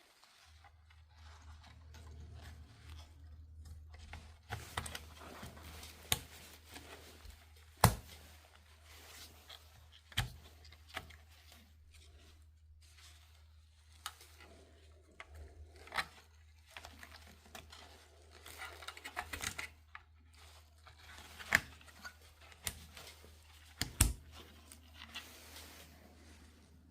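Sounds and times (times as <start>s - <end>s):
rustling: 0.0s - 26.9s.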